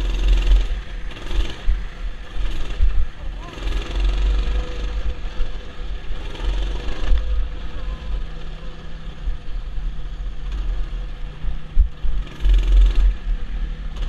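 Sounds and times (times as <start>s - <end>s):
mini bike engine running: 0.0s - 14.0s.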